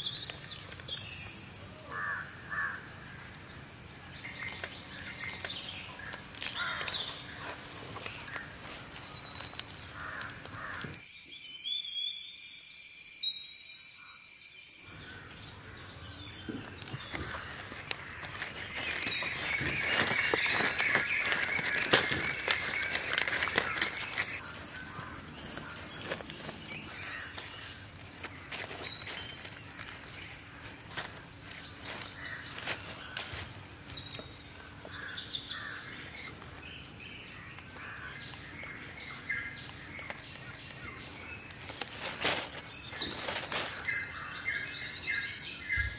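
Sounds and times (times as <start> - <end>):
high insect trill: 0.0 - 45.9.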